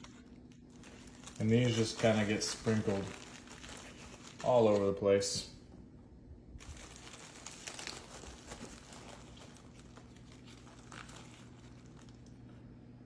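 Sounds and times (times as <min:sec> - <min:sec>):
faint rustling handling sounds: 0:00.0 - 0:05.9, 0:06.6 - 0:13.0.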